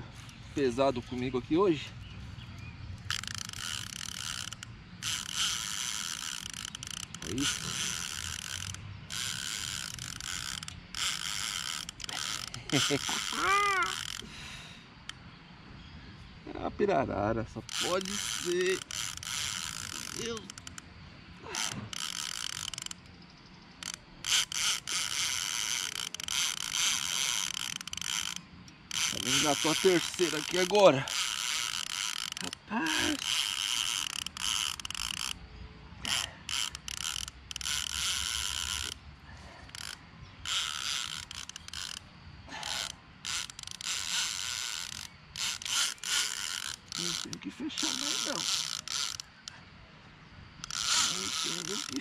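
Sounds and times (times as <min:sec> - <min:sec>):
fishing reel drag buzzing: 0:02.5 - 0:15.2, 0:17.6 - 0:49.7, 0:50.3 - 0:52.0.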